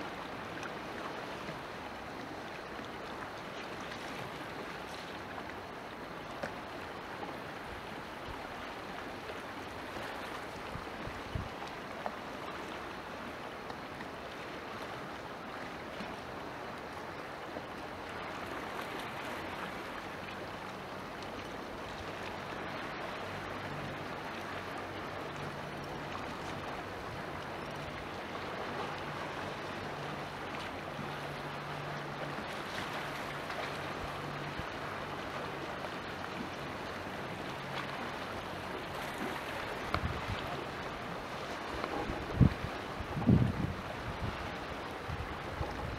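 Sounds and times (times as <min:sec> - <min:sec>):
faint motorboat engine hum: 0:00.0 - 0:45.9
sea water washing: 0:00.0 - 0:45.9
wind: 0:00.0 - 0:45.9.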